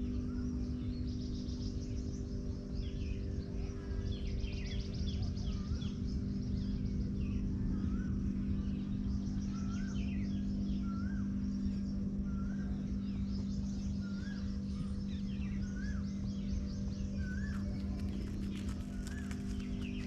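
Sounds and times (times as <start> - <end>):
birds chirping: 0.0 - 20.0
low hum and rumble: 0.0 - 20.0.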